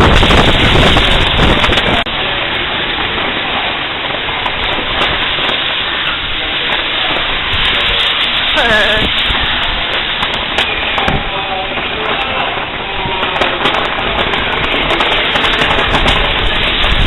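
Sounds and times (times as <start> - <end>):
heavy rain and strong wind: 0.0 - 17.0.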